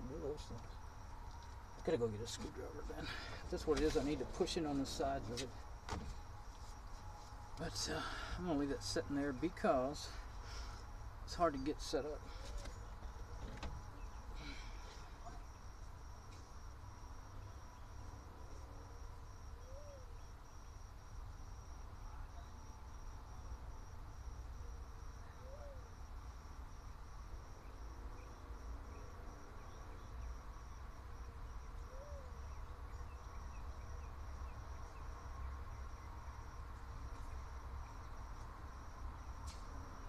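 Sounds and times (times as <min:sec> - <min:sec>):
insect chirping: 0:00.0 - 0:40.0.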